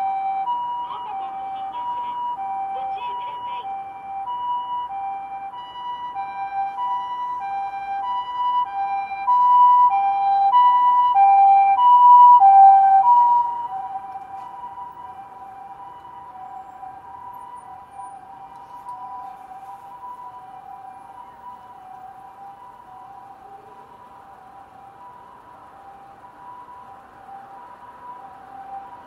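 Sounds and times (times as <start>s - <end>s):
road traffic: 0.0s - 29.0s
two-tone ambulance siren: 0.0s - 29.0s.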